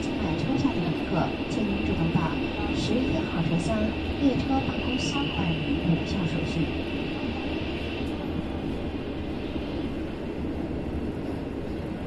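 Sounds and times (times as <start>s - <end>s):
train coach rumbling on track: 0.0s - 12.0s.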